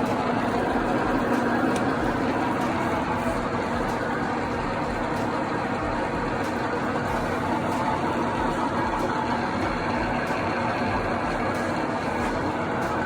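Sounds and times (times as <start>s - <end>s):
milling machine running: 0.0s - 13.0s.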